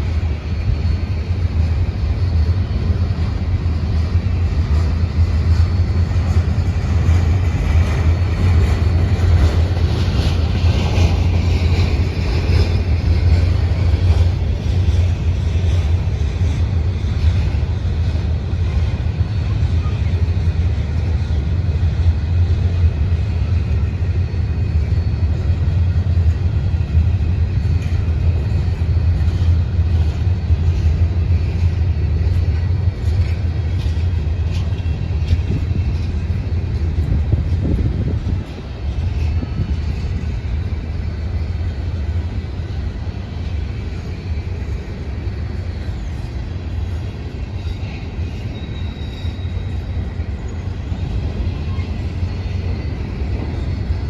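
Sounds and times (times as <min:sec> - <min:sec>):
freight train rumbling past: 0:00.0 - 0:54.0
train wheels clicking: 0:00.0 - 0:54.0.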